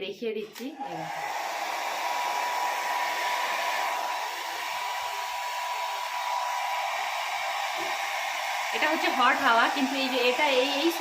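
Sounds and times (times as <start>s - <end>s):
hair dryer running: 0.5s - 11.0s.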